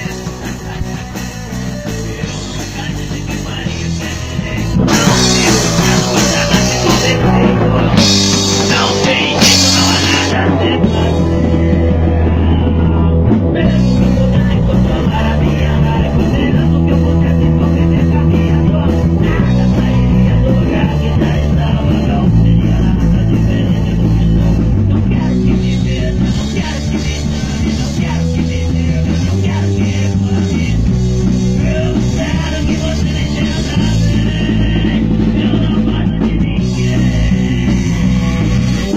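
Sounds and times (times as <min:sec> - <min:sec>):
bass line: 0:00.0 - 0:38.9
electric guitar: 0:00.0 - 0:38.9
rock music: 0:00.0 - 0:38.9.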